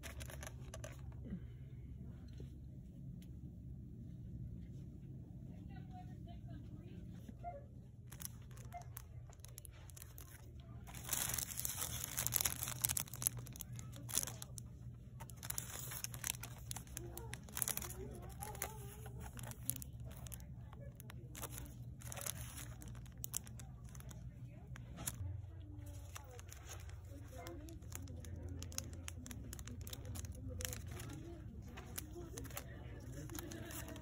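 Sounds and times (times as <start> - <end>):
crinkling and rustling handling: 0.0 - 3.3, 4.5 - 34.0
steady low hum: 0.0 - 34.0.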